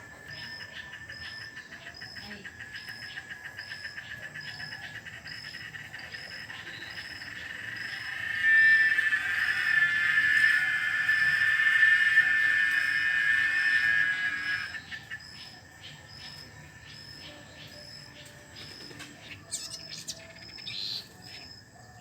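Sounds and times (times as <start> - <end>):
cicada buzzing: 0.0 - 21.8.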